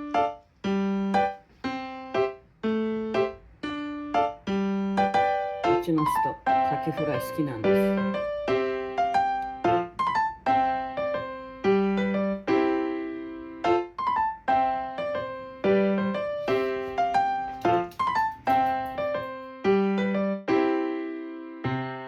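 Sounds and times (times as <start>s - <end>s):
electric piano tune: 0.0s - 22.0s.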